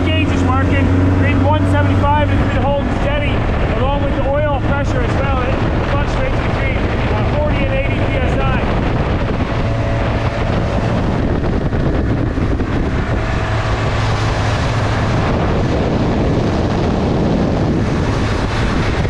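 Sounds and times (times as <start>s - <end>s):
boat engine humming: 0.0s - 19.0s
wind buffeting microphone: 0.0s - 19.0s.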